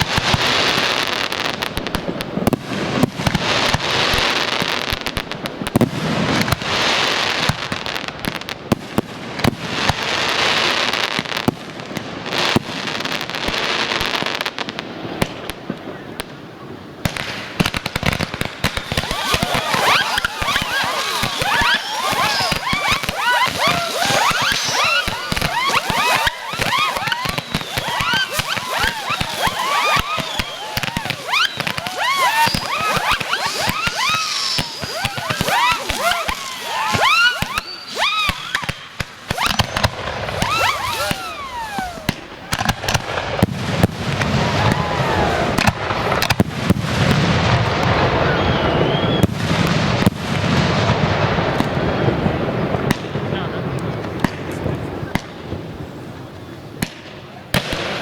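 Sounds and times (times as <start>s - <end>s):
fireworks popping and crackling: 0.0s - 58.0s
fireworks whistling: 0.0s - 58.0s.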